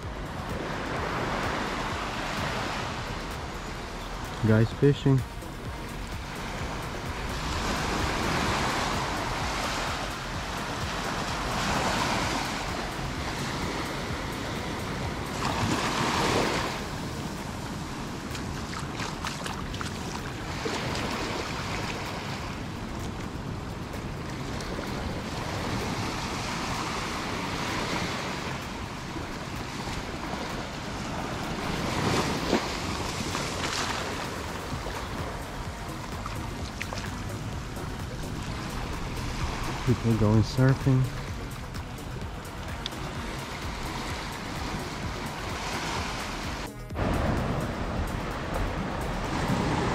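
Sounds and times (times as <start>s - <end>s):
ocean surf washing in: 0.0s - 49.9s.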